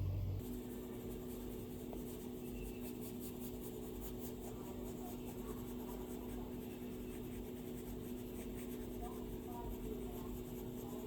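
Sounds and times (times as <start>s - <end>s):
steady low hum: 0.0s - 11.0s
stylus scratching and tapping on screen: 0.4s - 11.0s.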